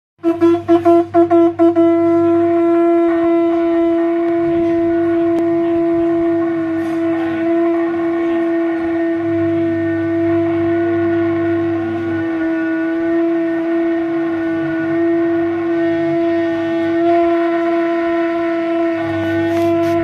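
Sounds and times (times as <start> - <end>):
conch shell blasts: 0.2 - 20.0.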